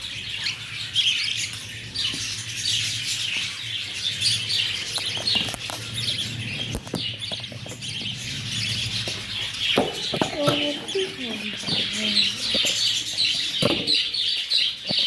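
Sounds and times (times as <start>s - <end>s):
birds chirping and chattering: 0.0s - 15.0s.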